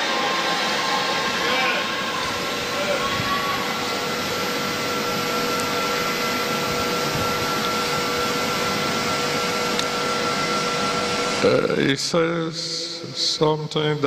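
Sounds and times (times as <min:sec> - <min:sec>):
steady rushing noise: 0:00.0 - 0:11.6.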